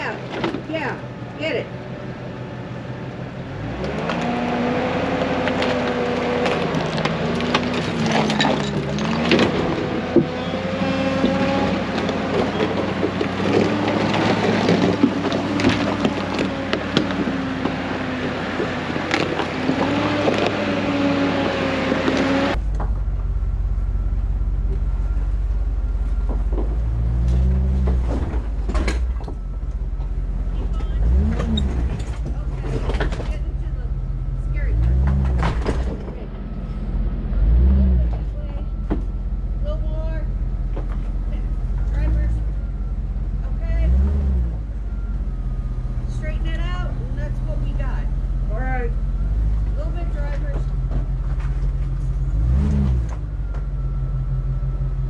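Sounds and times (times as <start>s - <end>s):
off-road engine at low speed: 0.0s - 55.0s.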